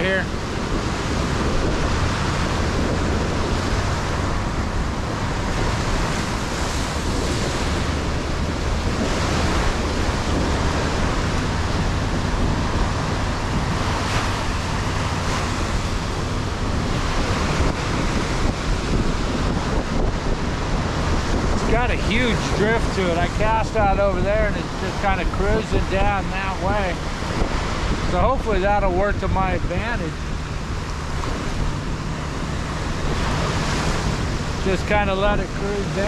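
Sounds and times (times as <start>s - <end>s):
ocean surf on sandy beach: 0.0s - 36.0s
wind rumbling on microphone: 0.0s - 36.0s.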